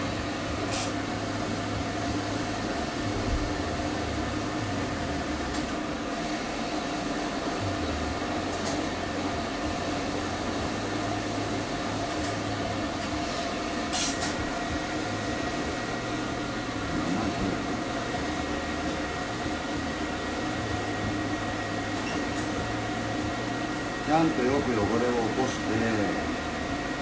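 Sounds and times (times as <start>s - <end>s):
dryer blowing with hum: 0.0s - 27.0s.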